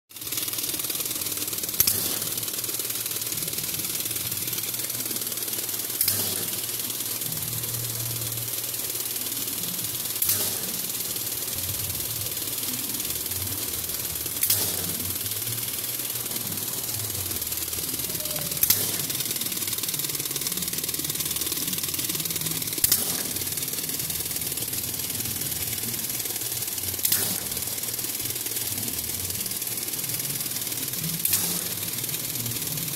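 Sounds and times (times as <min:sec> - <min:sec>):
fin forming machine whirring: 0:00.1 - 0:32.9
sharp machine clack: 0:00.1 - 0:32.9.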